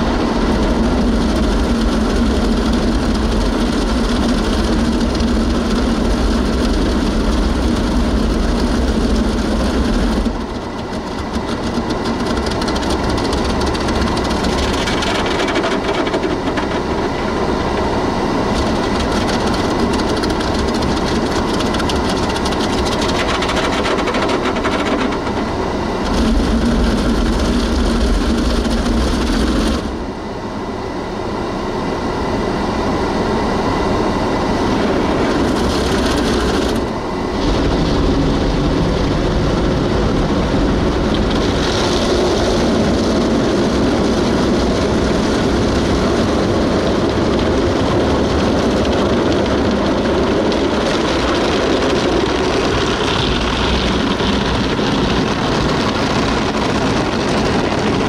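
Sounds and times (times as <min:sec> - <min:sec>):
heavy low rumble: 0:00.0 - 0:30.4, 0:32.7 - 0:58.0
car wash machine noise: 0:00.0 - 0:58.0.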